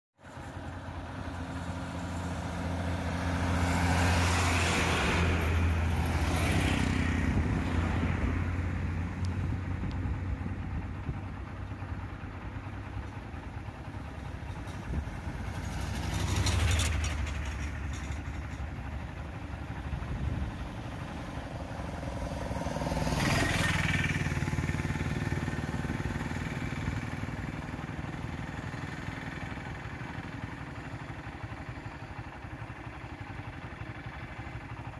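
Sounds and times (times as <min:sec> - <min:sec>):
low engine hum: 0:00.2 - 0:34.9
vehicles passing close by: 0:00.2 - 0:34.9.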